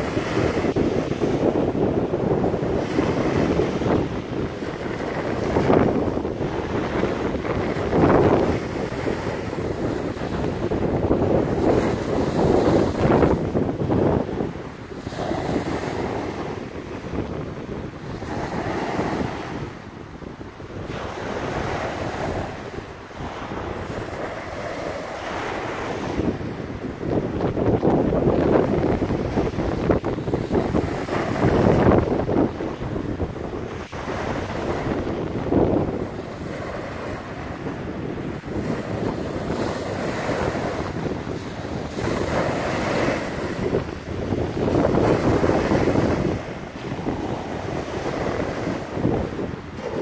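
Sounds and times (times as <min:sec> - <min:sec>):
waves washing up a sandy shore: 0:00.0 - 0:50.0
wind buffeting microphone: 0:00.0 - 0:50.0.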